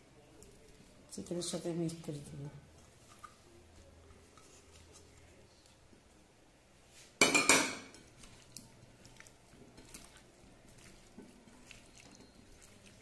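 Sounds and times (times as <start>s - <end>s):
hand mixing food in bowl: 0.0s - 6.2s, 7.8s - 13.0s.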